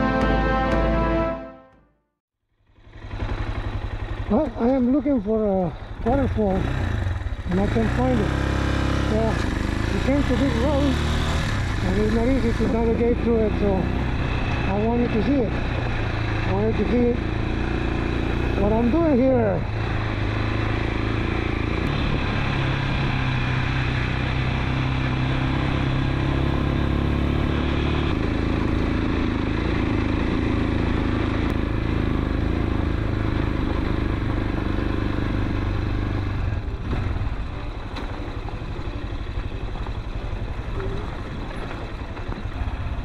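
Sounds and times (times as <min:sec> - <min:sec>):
motorcycle engine running: 0:02.5 - 0:43.0.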